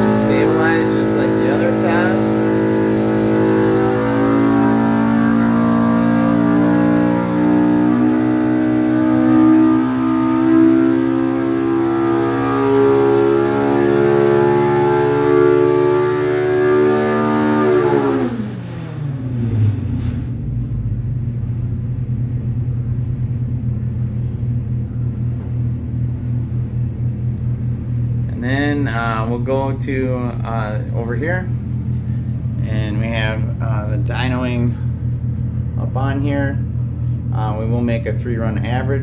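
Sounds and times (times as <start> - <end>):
engine revving at full load: 0.0 - 39.0.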